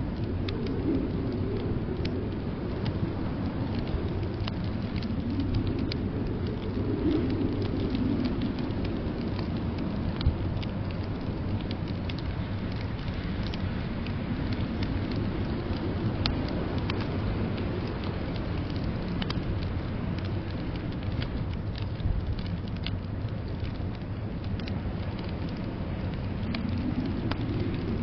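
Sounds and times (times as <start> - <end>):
blizzard wind rumbling: 0.0 - 28.0
wood fire crackling: 0.0 - 28.0.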